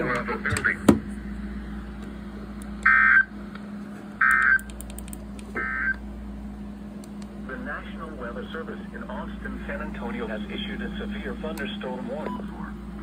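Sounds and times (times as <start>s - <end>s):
radio hum and hiss: 0.0s - 13.0s.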